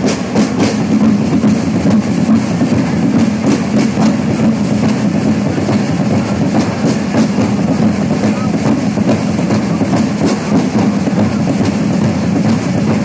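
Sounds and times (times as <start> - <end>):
group of drums playing: 0.0 - 13.0.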